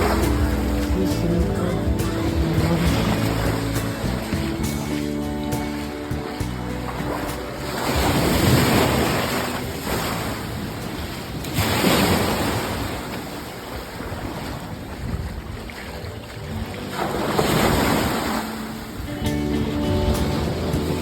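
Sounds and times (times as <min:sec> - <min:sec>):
surf breaking on beach: 0:00.0 - 0:21.0
wind buffeting microphone: 0:00.0 - 0:21.0.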